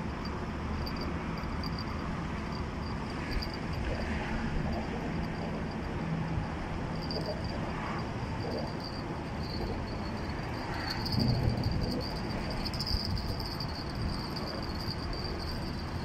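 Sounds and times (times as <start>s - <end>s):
high-pitched insect trill: 0.0s - 16.0s
low background rumble: 0.0s - 16.0s.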